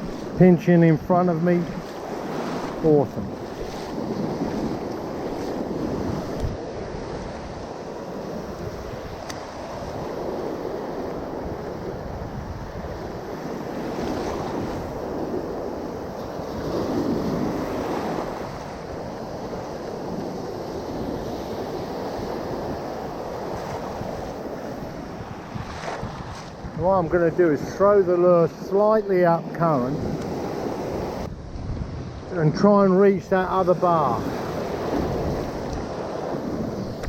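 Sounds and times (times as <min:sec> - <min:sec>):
surf washing: 0:00.0 - 0:37.0
wind buffeting microphone: 0:00.0 - 0:37.0.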